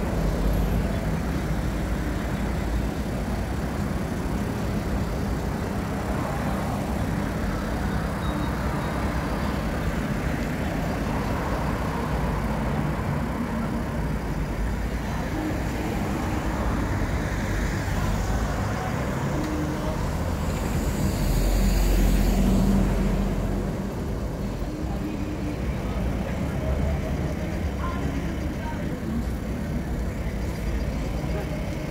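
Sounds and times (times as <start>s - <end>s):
bus rumbling past: 0.0s - 31.9s
passing vehicles: 0.0s - 31.9s.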